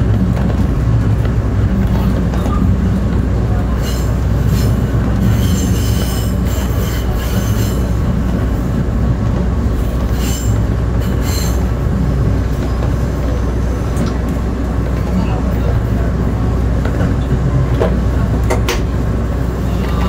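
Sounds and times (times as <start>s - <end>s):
railcar engine and wheels rumbling: 0.0s - 20.0s.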